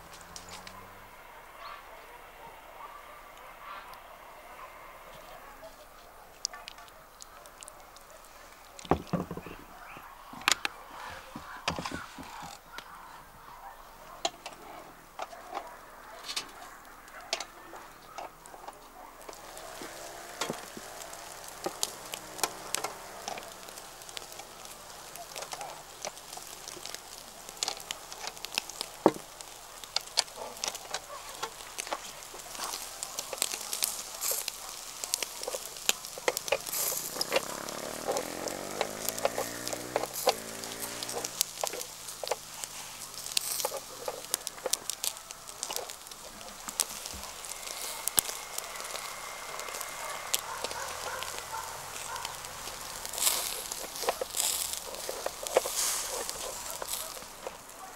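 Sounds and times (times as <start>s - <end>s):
fire popping and crackling: 0.0s - 57.9s
meat sizzling over fire: 0.0s - 57.9s.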